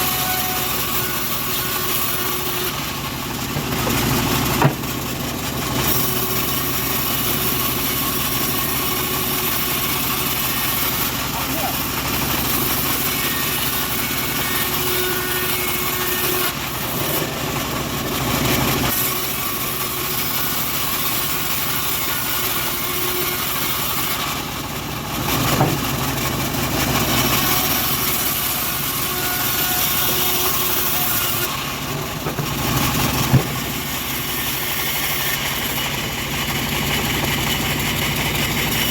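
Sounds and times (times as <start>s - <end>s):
bandsaw mill engine running: 0.0s - 38.9s.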